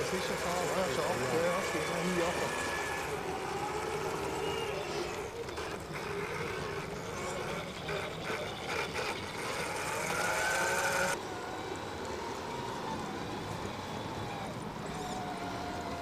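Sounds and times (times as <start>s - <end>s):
electric motors whining: 0.0s - 16.0s
outdoor background noise: 0.0s - 16.0s.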